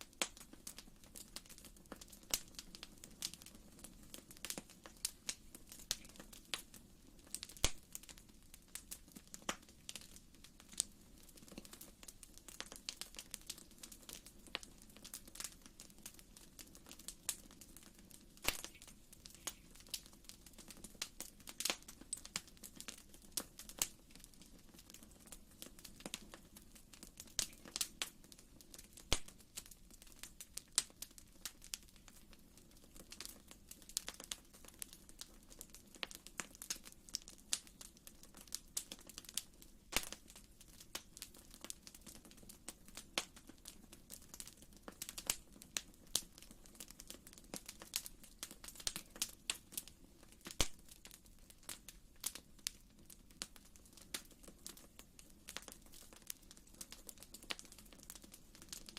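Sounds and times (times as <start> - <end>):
fireplace fire crackling: 0.0 - 58.9.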